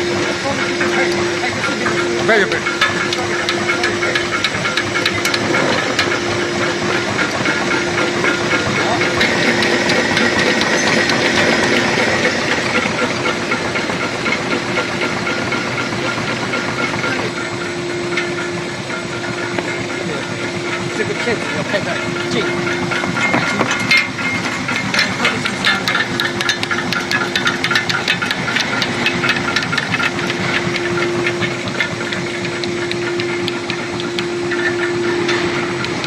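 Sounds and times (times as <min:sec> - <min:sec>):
steady hum: 0:00.0 - 0:36.0
tablet press machine running: 0:00.0 - 0:36.0.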